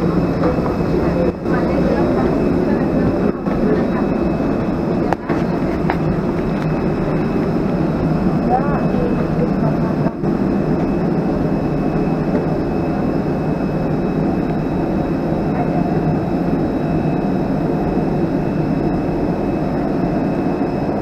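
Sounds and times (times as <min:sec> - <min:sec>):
airliner machinery drone: 0:00.0 - 0:21.0.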